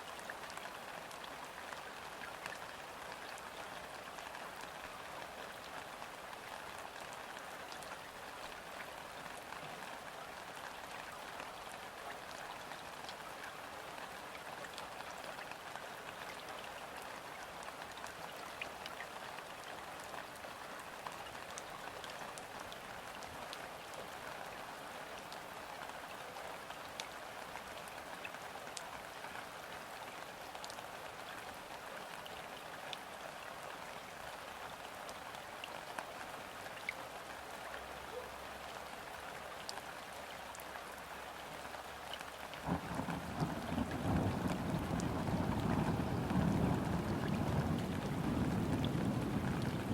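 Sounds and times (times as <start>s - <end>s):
rain falling on river water: 0.0s - 49.9s.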